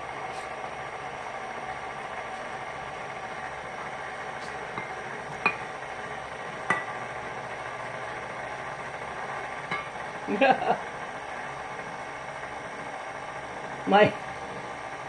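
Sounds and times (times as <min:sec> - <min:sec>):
stand mixer running: 0:00.0 - 0:15.0.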